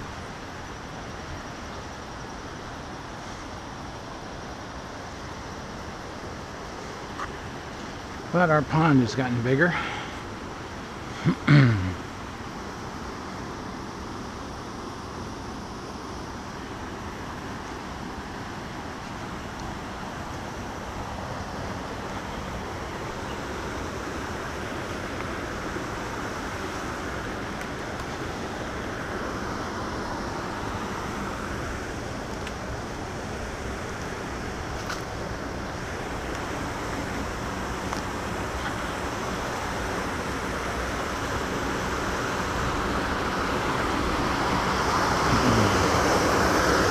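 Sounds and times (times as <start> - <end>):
creek water rushing: 0.0 - 46.9.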